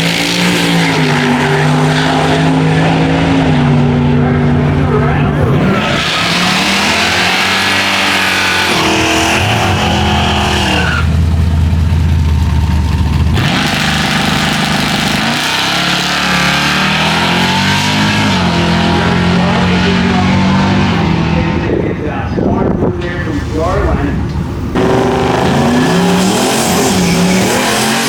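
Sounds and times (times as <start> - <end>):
drag car engine revving: 0.0 - 28.0.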